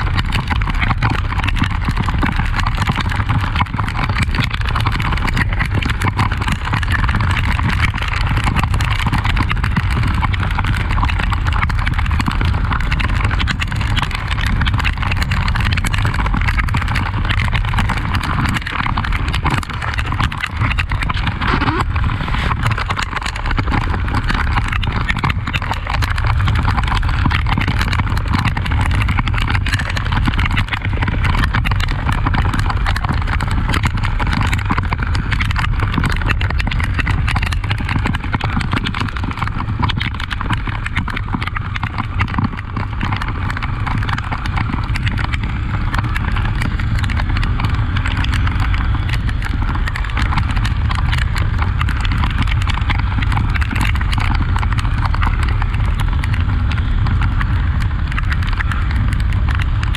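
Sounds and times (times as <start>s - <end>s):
steady rushing noise: 0.0s - 59.9s
motorcycle engine running: 0.9s - 59.9s.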